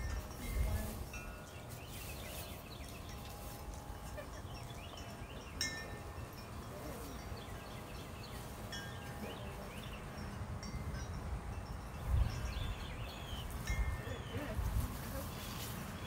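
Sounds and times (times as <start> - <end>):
metal chimes ringing: 0.0 - 14.6.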